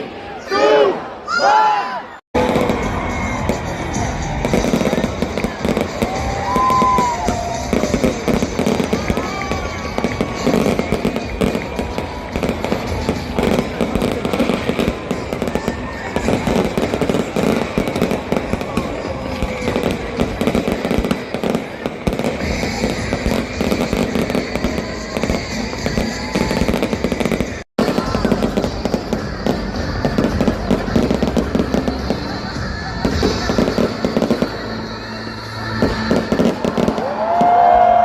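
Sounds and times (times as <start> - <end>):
fireworks bangs and crackles: 2.4 - 38.0.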